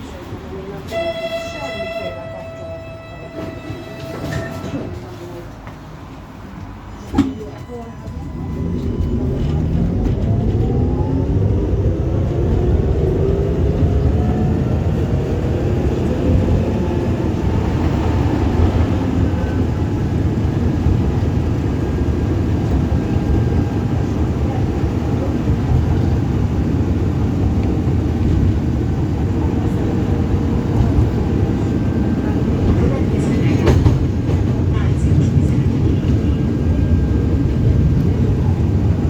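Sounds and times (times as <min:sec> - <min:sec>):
tram wheels rumbling on rails: 0:00.0 - 0:39.0.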